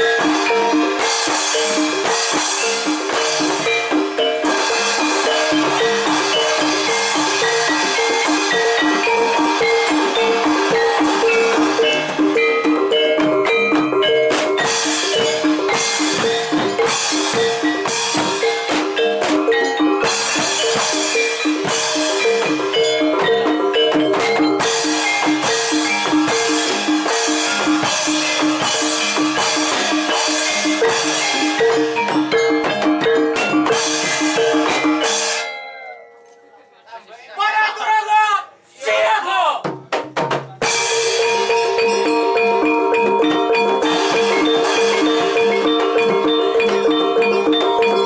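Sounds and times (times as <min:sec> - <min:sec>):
drum strokes: 0:00.0 - 0:35.5, 0:39.6 - 0:48.0.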